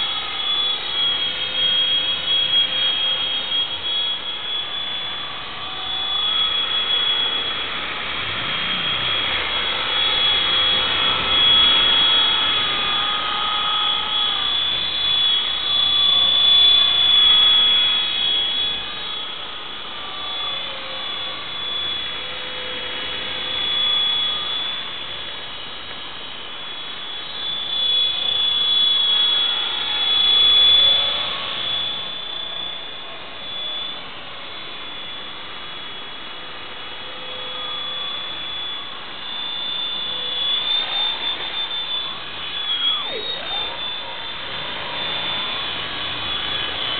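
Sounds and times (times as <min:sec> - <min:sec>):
rc helicopter whine: 0:00.0 - 0:46.9.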